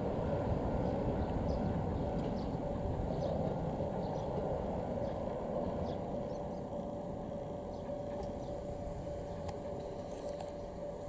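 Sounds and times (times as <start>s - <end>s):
electric train rumbling: 0.0s - 11.0s
faint steady hum: 0.0s - 11.0s
birds chirping: 0.8s - 10.0s.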